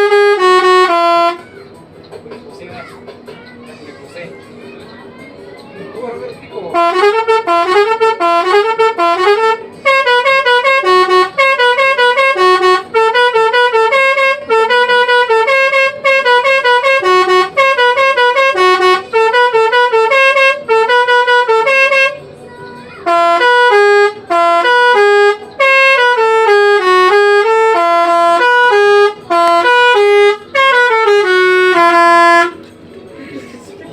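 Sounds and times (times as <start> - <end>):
musical multi-tone bus horn: 0.0 - 1.8, 5.8 - 33.9.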